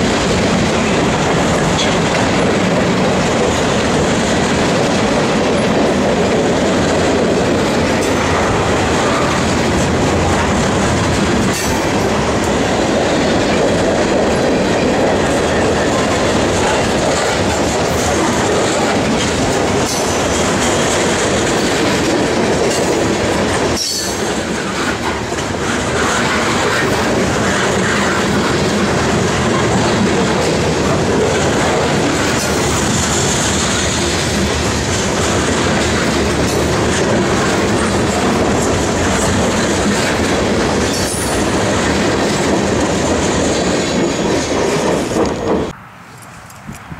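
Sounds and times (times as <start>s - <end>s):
train wheels clacking: 0.0s - 46.7s.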